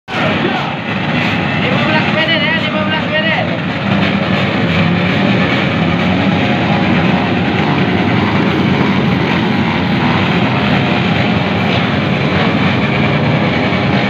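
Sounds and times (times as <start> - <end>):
motorcycle engines revving: 0.1 - 14.0.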